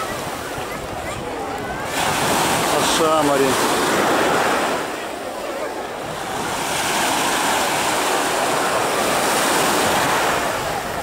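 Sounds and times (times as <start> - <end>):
small waves breaking: 0.0 - 11.0.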